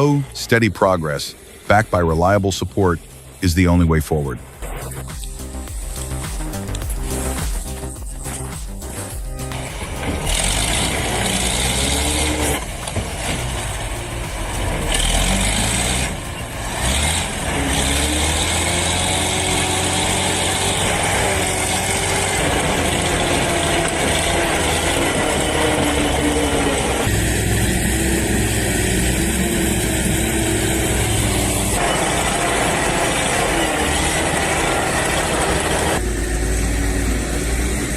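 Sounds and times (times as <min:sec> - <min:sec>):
diesel truck engines running: 0:00.0 - 0:37.9.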